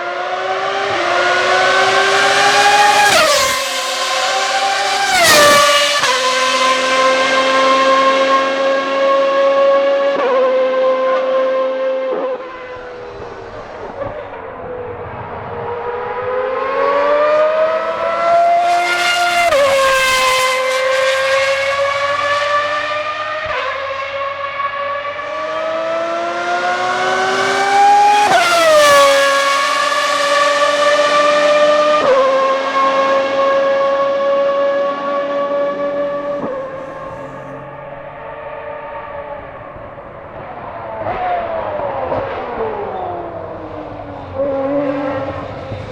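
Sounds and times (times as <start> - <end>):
racing car engine at high revs: 0.0 - 45.9.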